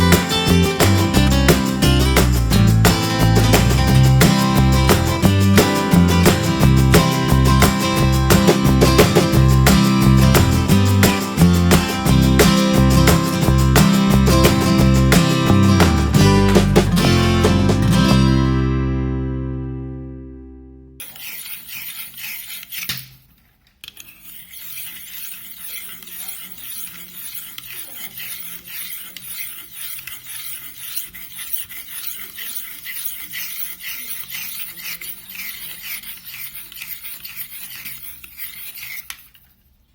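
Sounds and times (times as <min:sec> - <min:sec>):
knife scraping through sharpener: 0:00.0 - 0:16.0, 0:21.0 - 0:39.6.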